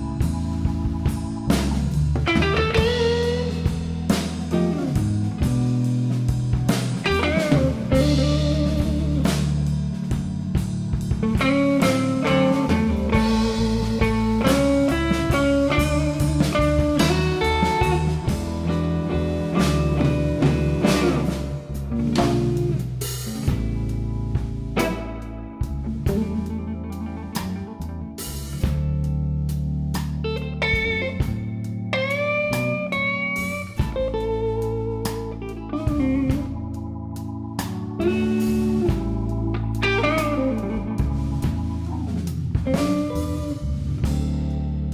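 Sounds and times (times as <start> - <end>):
bass: 0.0 - 44.9
blues band playing: 0.0 - 44.9
drums: 0.0 - 44.9
electric guitar lead lines: 0.0 - 44.9
keyboard: 0.0 - 44.9.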